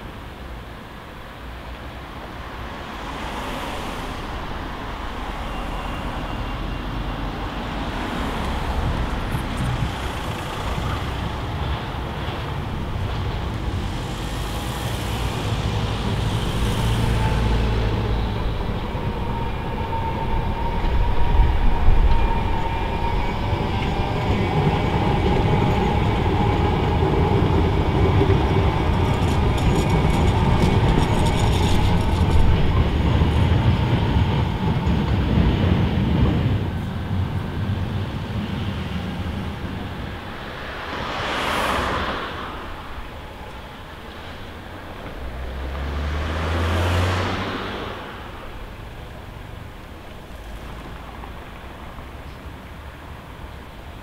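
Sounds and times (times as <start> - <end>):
tram rumble and whine: 0.0 - 54.0
car passing: 2.2 - 54.0
tram wheels clattering on rails: 2.4 - 45.9, 47.4 - 54.0.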